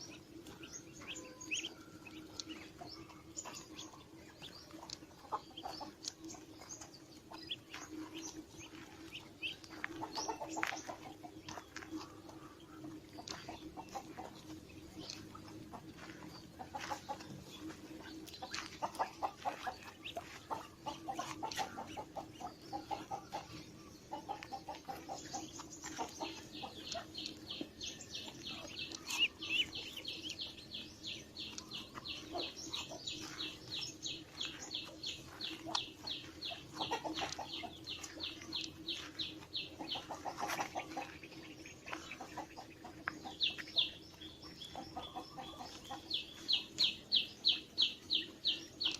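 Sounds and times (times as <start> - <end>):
chickens clucking: 0.0 - 48.9
steady low hum: 0.0 - 48.9.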